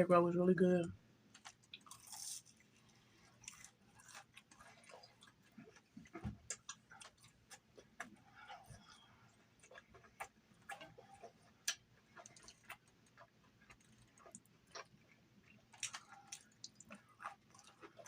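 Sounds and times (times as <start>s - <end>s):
person chewing: 1.3s - 18.0s.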